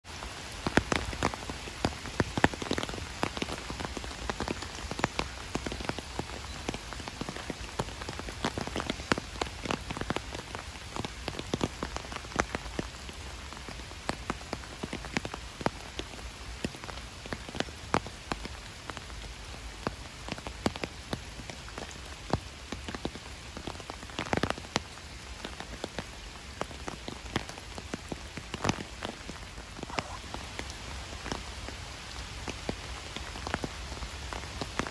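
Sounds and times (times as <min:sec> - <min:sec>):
rain falling on a lake: 0:00.0 - 0:34.9.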